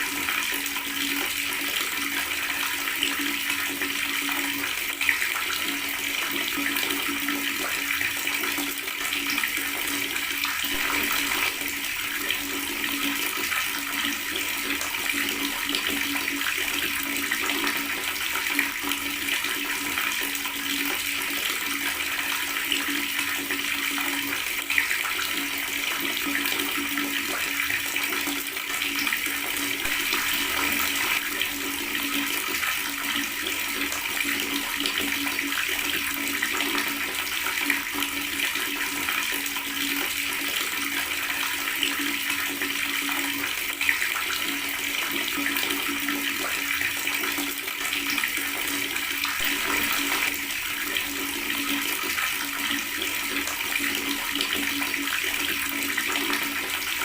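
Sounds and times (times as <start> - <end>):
tap water running and gurgling: 0.0 - 57.0.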